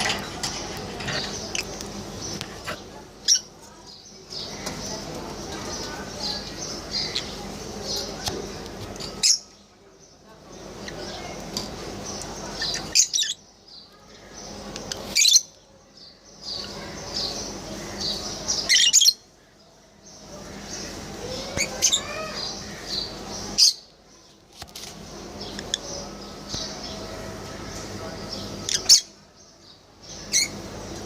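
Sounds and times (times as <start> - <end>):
lovebirds chirping and squawking: 0.0 - 9.6, 10.4 - 31.0.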